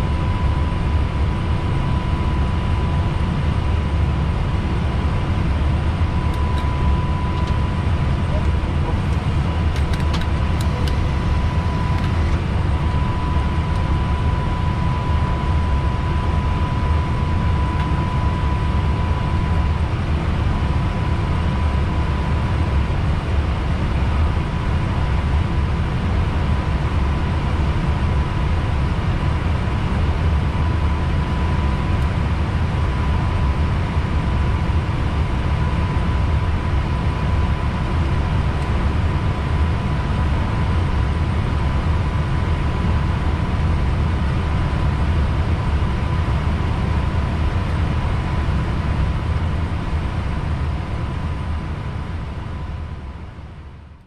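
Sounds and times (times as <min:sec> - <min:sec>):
aircraft cockpit rumble: 0:00.0 - 0:54.0.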